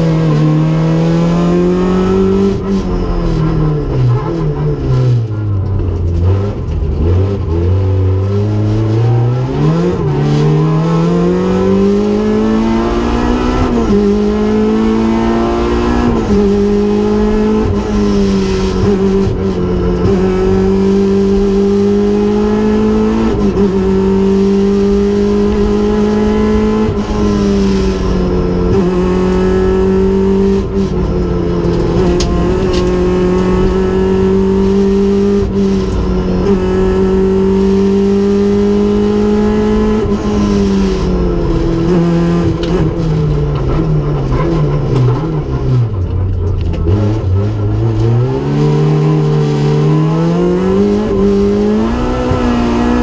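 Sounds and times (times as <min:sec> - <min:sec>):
rally car engine revving hard: 0:00.0 - 0:53.0.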